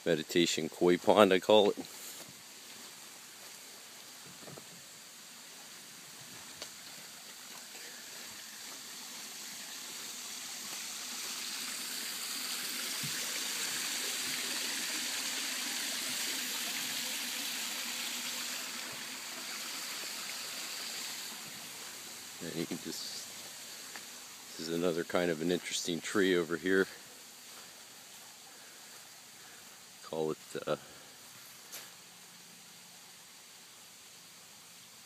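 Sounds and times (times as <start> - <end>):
stream flowing: 0.0 - 35.0.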